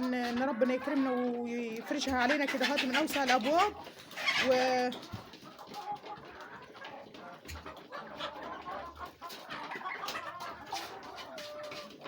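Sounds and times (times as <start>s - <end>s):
poultry clucking and calling: 0.0s - 12.0s.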